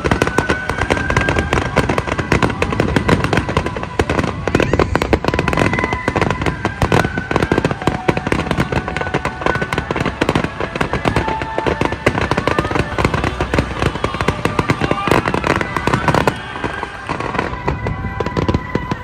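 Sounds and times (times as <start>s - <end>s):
fireworks bangs and crackles: 0.0s - 19.0s
fireworks whistling: 0.0s - 19.0s.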